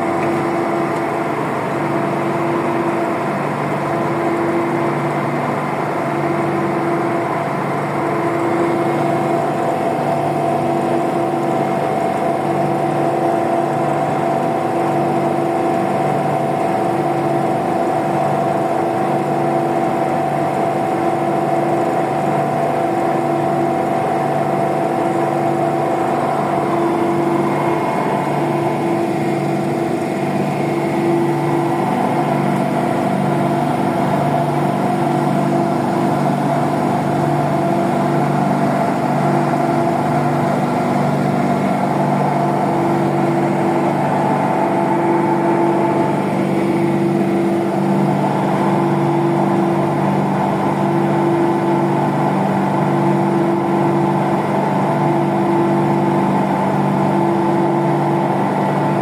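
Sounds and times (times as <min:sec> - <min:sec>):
boat engine and deck machinery humming: 0:00.0 - 0:59.0.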